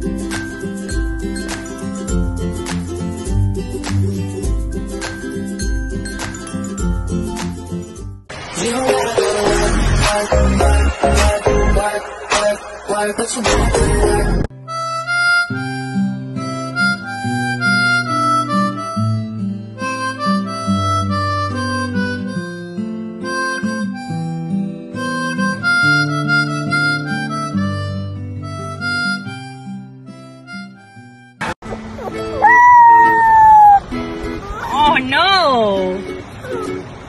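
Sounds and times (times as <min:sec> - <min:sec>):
background music melody over bass: 0:00.0 - 0:31.5.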